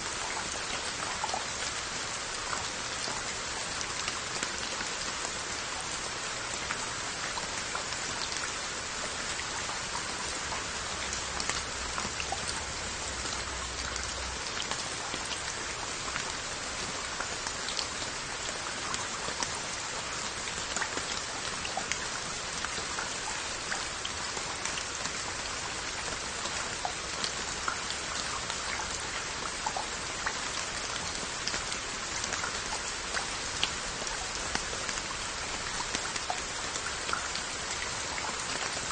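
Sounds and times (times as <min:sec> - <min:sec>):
raindrops ticking on pottery: 0:00.0 - 0:38.9.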